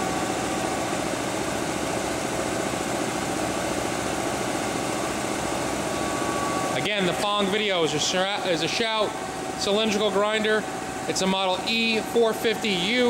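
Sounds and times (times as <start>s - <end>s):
grinder machine humming: 0.0s - 13.0s.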